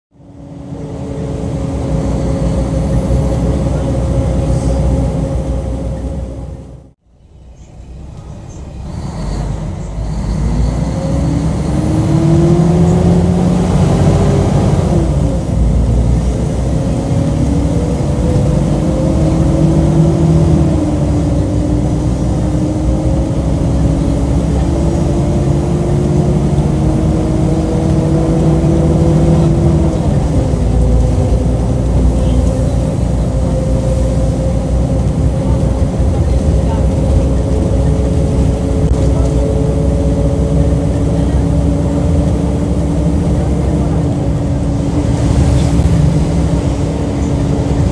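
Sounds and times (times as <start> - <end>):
bus diesel engine accelerating: 0.1 - 47.9.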